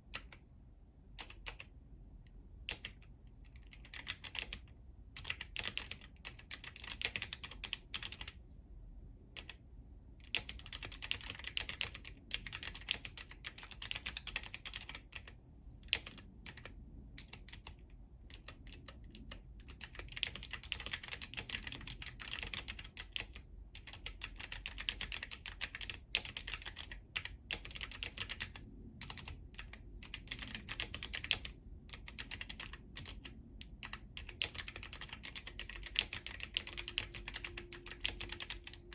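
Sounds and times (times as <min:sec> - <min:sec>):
fast typing on mechanical keyboard: 0:01.2 - 0:01.7, 0:02.6 - 0:08.4, 0:09.3 - 0:09.6, 0:10.2 - 0:38.9
fingernails clicking keys: 0:02.7 - 0:08.4, 0:10.2 - 0:38.9.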